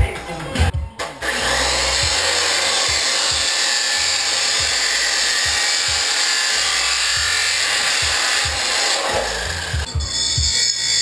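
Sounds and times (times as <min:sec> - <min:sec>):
background music with low beat: 0:00.0 - 0:11.0
chop saw cutting pipe: 0:01.2 - 0:11.0.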